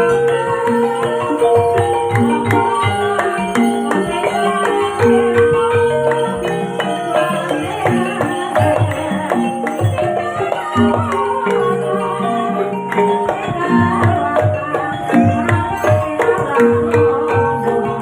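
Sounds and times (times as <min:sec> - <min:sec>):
struck tuned bars ringing melody: 0:00.0 - 0:18.0.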